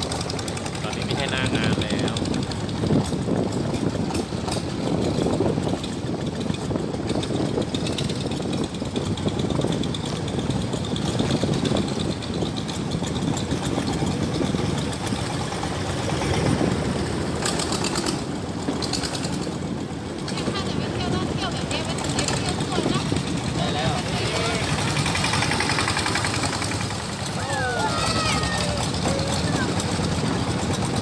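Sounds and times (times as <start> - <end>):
motorboat engine running: 0.0 - 31.0.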